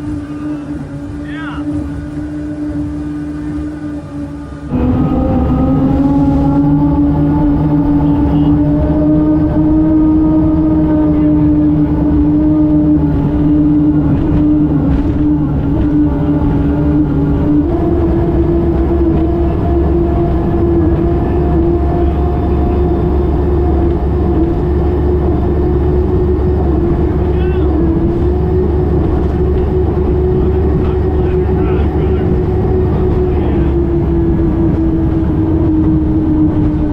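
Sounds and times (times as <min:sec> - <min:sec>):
speedboat engine running hard: 0:00.0 - 0:36.9.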